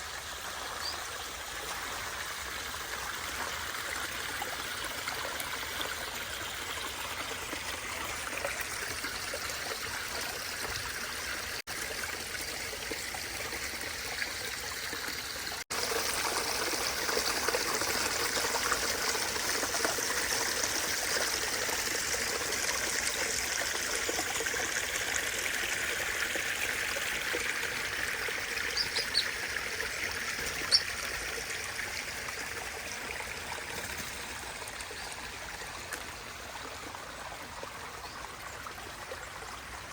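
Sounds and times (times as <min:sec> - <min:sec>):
water trickling over rocks: 0:00.0 - 0:39.9.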